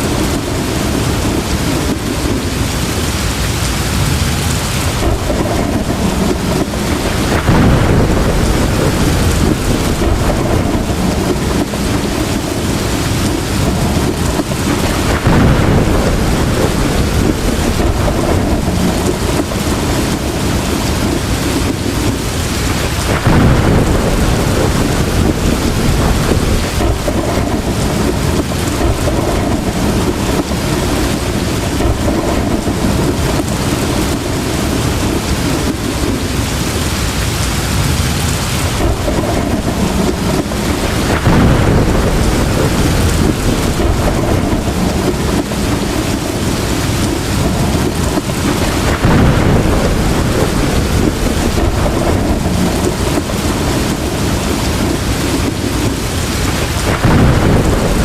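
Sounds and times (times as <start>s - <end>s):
heavy rain pouring: 0.0s - 58.0s
thunder rolling: 0.0s - 58.0s.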